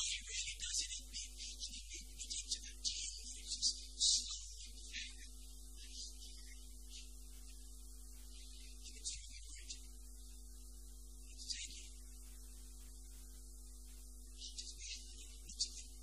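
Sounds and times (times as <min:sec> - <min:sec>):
electrical mains hum with hiss: 0:00.0 - 0:16.0
quiet steady held tones: 0:00.0 - 0:16.0.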